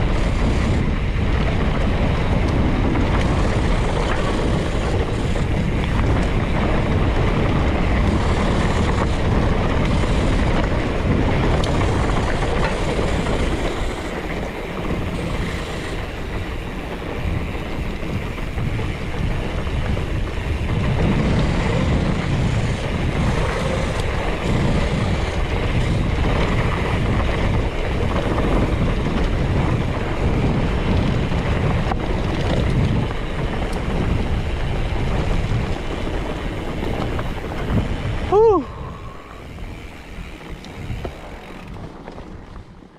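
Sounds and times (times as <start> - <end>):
bike tyres rolling on dirt: 0.0 - 42.9
wind on microphone: 0.0 - 42.9.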